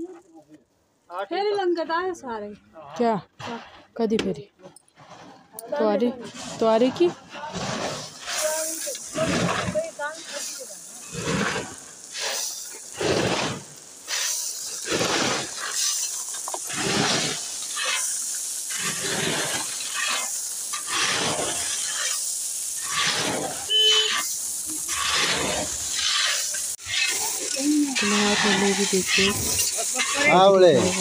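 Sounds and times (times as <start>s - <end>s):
shovel scraping gravel: 4.9s - 31.0s.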